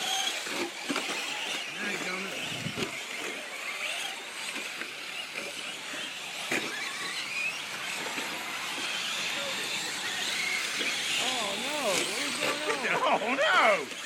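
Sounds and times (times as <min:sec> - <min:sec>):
rc truck motor whine: 0:00.0 - 0:14.0.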